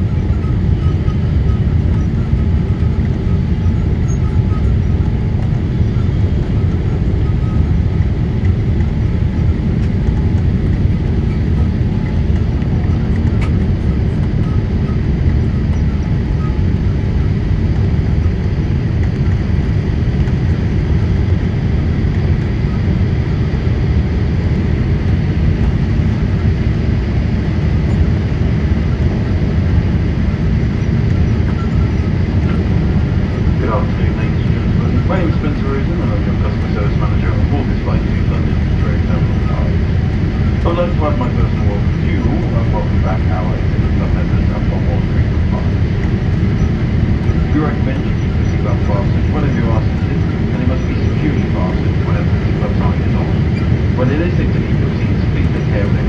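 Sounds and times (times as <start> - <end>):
faint steady whine: 0.0 - 56.0
jet engine cabin roar: 0.0 - 56.0.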